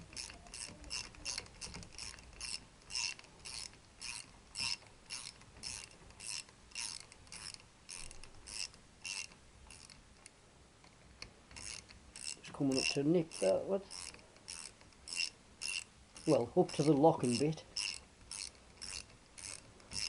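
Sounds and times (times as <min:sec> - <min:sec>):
ratcheting spanner clicking: 0:00.0 - 0:10.3, 0:11.2 - 0:20.0.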